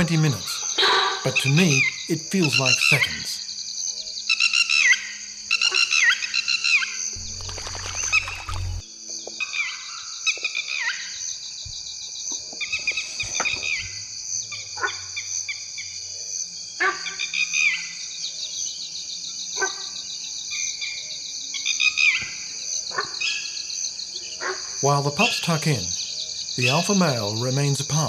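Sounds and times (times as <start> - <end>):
high-pitched insect chorus: 0.0 - 28.0
insect chirping calls: 0.0 - 28.0.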